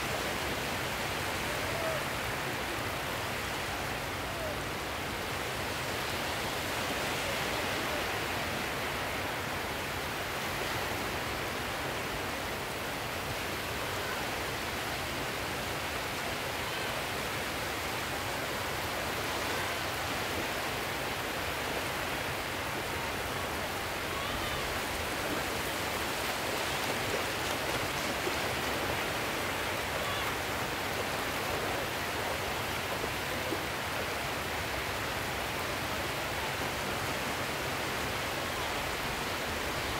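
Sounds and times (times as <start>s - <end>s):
sea surf washing ashore: 0.0s - 39.9s.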